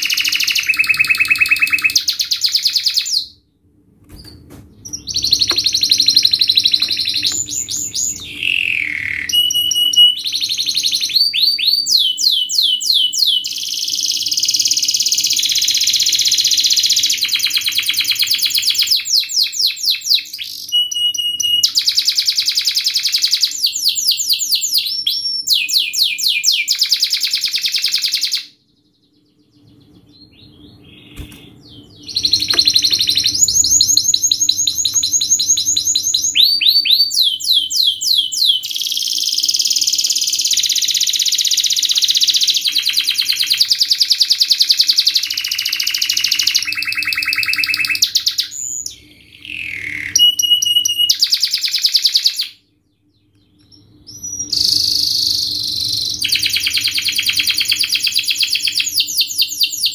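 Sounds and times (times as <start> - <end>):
canary singing trills: 0.0 - 3.4, 4.8 - 59.9.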